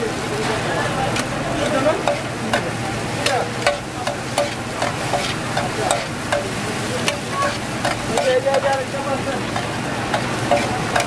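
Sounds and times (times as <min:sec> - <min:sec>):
food sizzling: 0:00.0 - 0:11.0
spatula and tongs clinking on griddle: 0:01.1 - 0:11.0.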